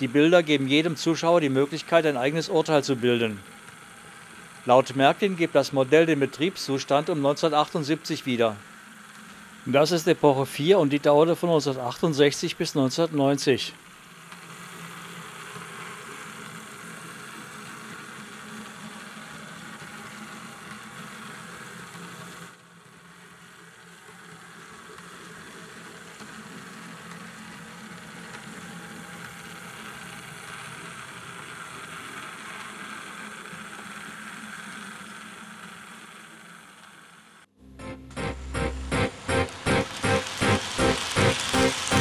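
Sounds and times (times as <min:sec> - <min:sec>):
model locomotive running: 0:00.0 - 0:37.5, 0:38.8 - 0:42.0.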